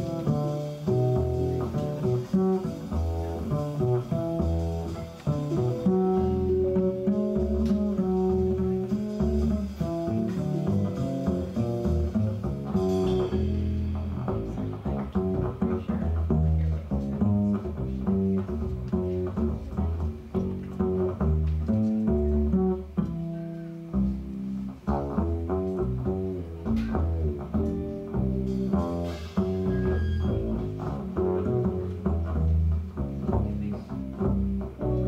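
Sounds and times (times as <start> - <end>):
double bass plucked notes: 0.0 - 35.0.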